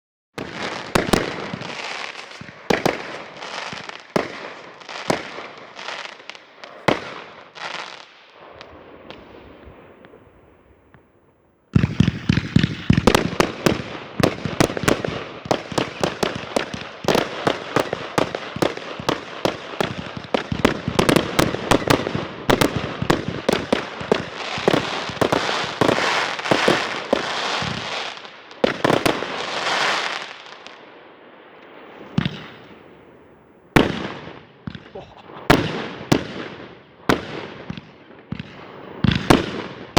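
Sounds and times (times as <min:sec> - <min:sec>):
fireworks bangs and crackling: 0:00.4 - 0:39.9.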